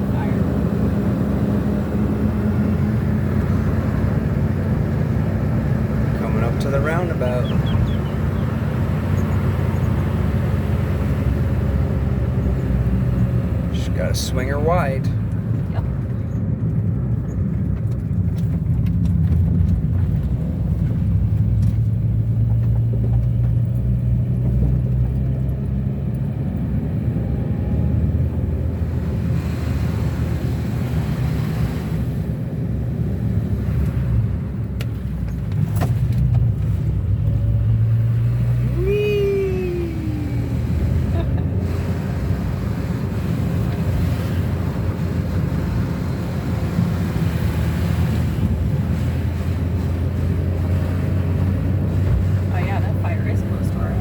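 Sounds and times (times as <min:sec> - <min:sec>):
car engine accelerating: 0:00.0 - 0:54.0
road rumble: 0:00.0 - 0:54.0.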